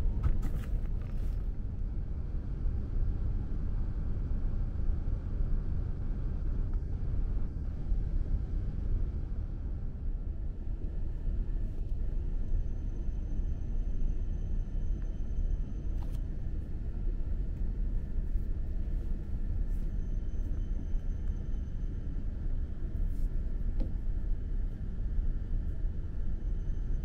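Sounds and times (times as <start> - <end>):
faint high whine: 0.0 - 27.0
train cabin low rumble: 0.0 - 27.0.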